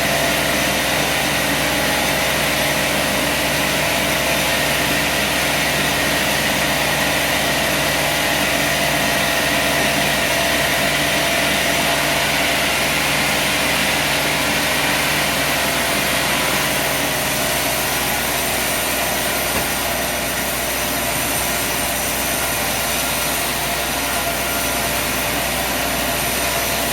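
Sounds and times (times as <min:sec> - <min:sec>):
sawmill engine running: 0:00.0 - 0:26.9.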